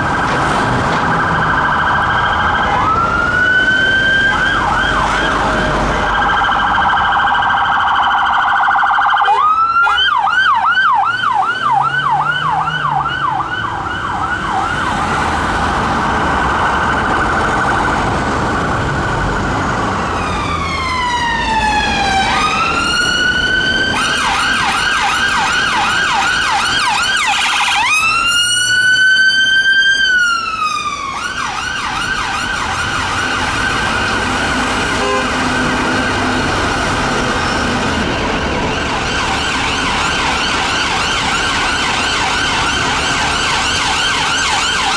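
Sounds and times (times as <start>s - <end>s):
ambulance siren wailing: 0.0s - 44.9s
police siren yelp: 0.0s - 44.9s.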